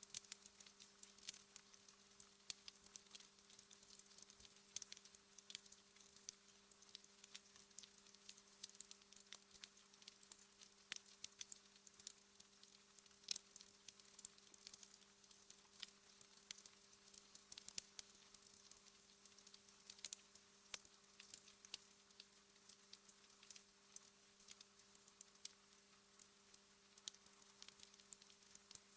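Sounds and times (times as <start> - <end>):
faint steady hum: 0.0 - 28.9
wood fire crackling: 0.0 - 28.9.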